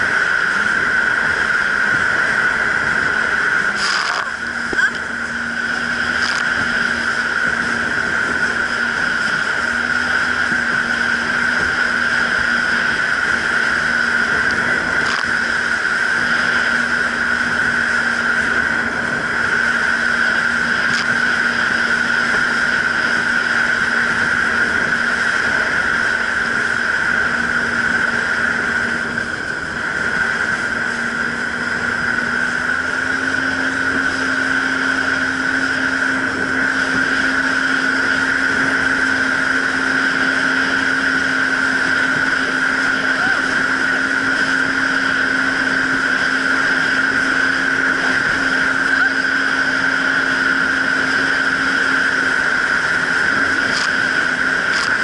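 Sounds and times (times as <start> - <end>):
jet ski engine whine: 0.0 - 55.0
water rushing: 0.0 - 55.0.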